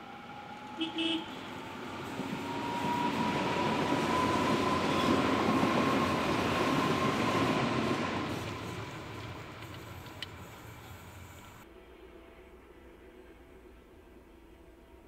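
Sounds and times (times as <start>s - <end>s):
underground train rumbling past: 0.0s - 15.0s.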